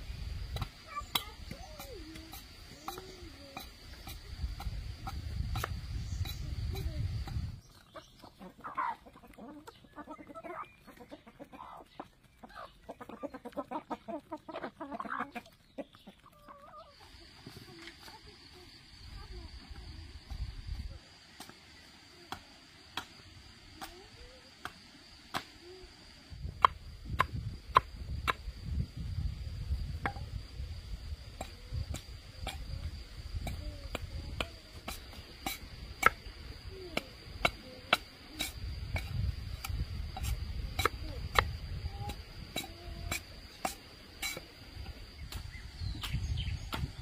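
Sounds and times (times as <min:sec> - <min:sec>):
high insect drone: 0:00.0 - 0:07.6, 0:16.9 - 0:47.0.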